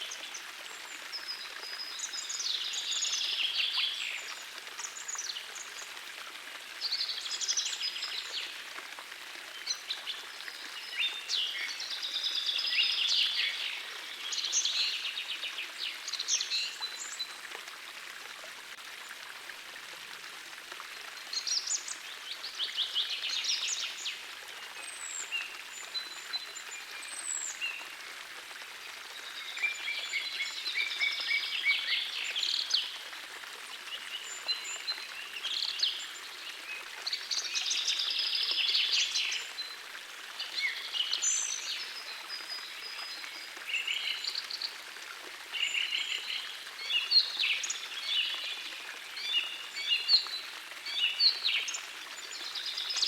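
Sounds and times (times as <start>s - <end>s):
small stream rushing: 0.0s - 53.0s.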